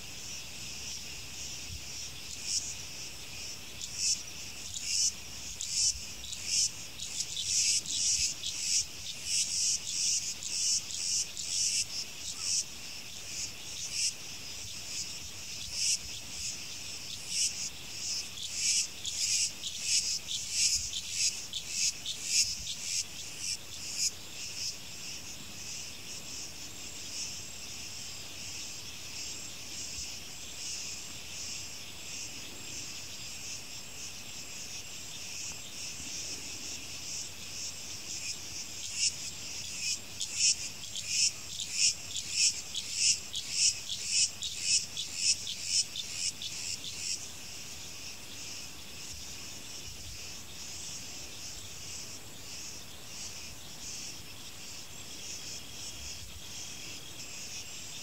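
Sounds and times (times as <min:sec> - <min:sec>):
insect chorus shrilling: 0:00.0 - 0:58.0.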